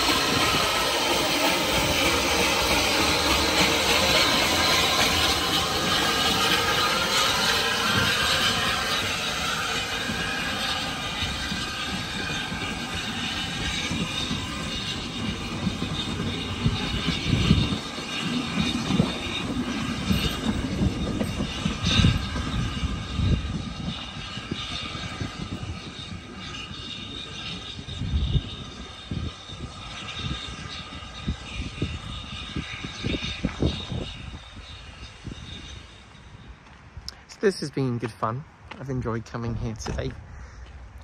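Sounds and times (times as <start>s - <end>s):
steam train running: 0.0s - 41.0s.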